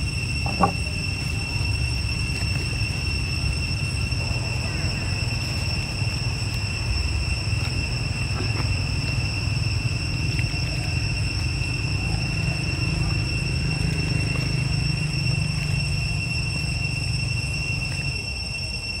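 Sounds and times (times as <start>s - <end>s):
faint monkey sounds: 0.0s - 19.0s
high-pitched insect drone: 0.0s - 19.0s.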